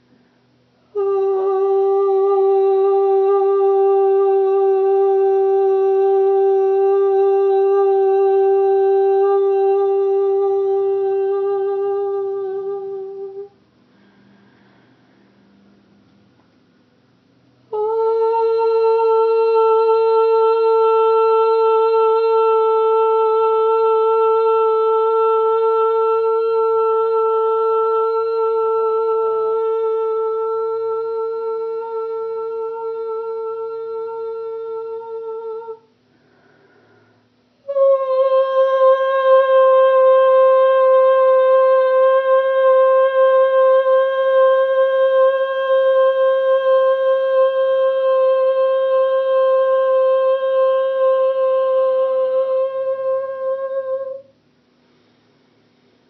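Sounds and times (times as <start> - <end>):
woman toning long steady notes: 0.0 - 16.4, 17.5 - 54.7.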